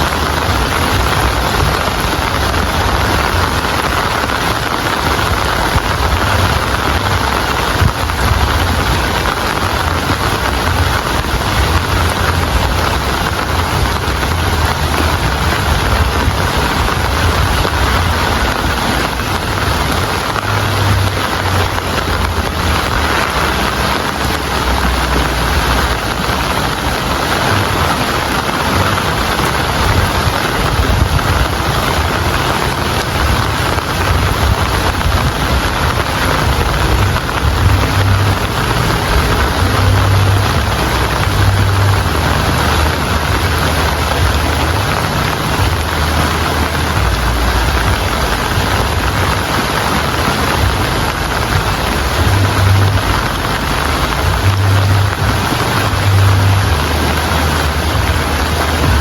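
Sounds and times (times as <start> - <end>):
heavy rain falling: 0.0 - 59.0
low rumble: 0.0 - 59.0.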